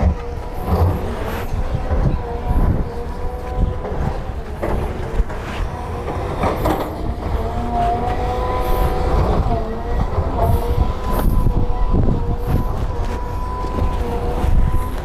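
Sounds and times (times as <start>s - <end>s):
diesel engine rumble: 0.0s - 15.0s
hydraulic whine: 0.0s - 15.0s.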